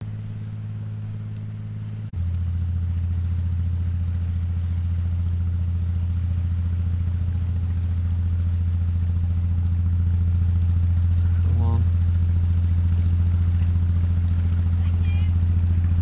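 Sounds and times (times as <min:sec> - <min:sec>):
motor boat engine droning: 0:00.0 - 0:16.0.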